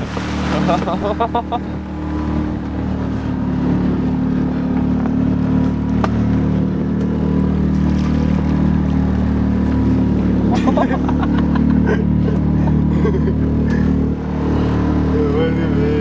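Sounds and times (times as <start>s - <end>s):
motorboat engine humming: 0.0s - 16.0s
water: 0.0s - 16.0s.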